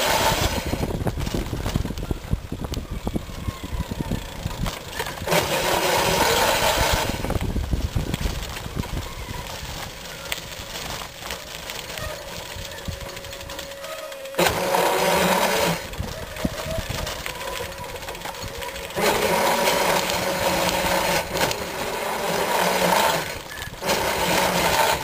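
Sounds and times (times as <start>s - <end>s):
electric bicycle motor running: 0.0s - 25.0s.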